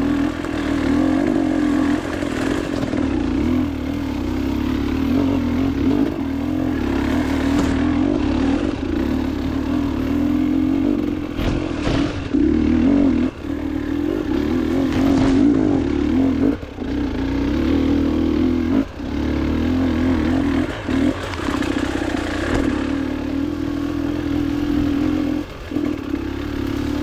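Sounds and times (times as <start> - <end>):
clatter: 0.0 - 27.0
motorcycle engine running: 0.0 - 27.0.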